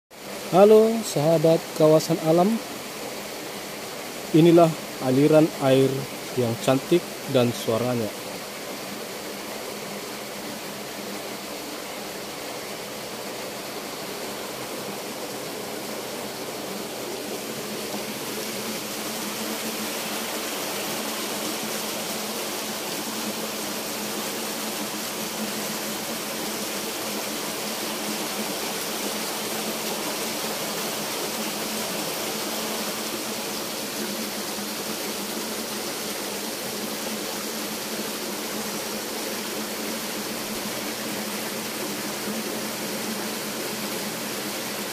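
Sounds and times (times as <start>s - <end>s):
stream running over stones: 0.1s - 44.9s.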